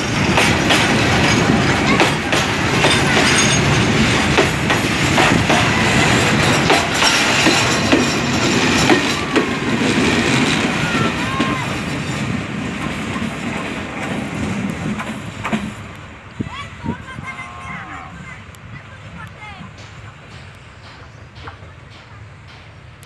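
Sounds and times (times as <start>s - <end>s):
train wheels clattering over rail joints: 0.0s - 16.4s, 19.6s - 23.0s.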